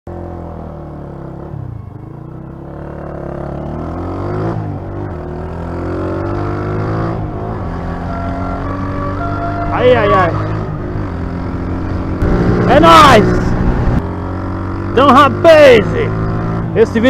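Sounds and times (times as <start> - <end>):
motorcycle engine accelerating: 0.1 - 17.0.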